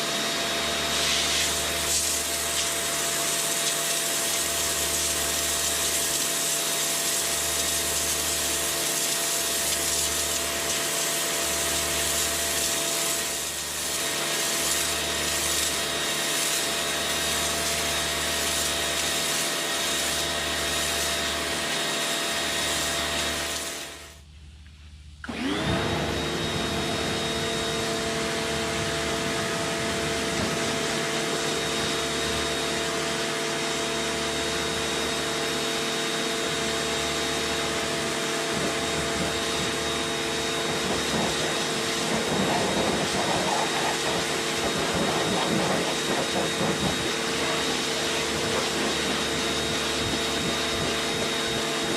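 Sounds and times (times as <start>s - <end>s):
pressure washer motor whine: 0.0s - 24.3s, 25.2s - 51.9s.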